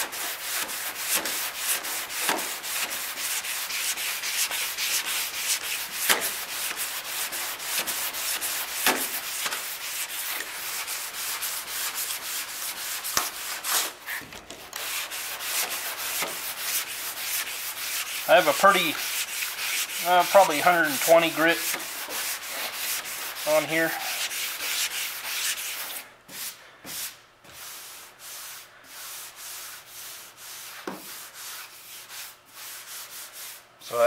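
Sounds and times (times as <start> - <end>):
sanding block rasping on filler: 0.0 - 14.2, 14.8 - 33.7.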